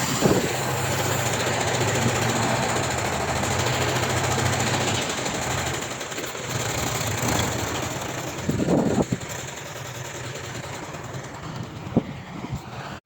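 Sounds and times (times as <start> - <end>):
diesel engine running: 0.0 - 13.0
engine clatter: 0.0 - 13.0.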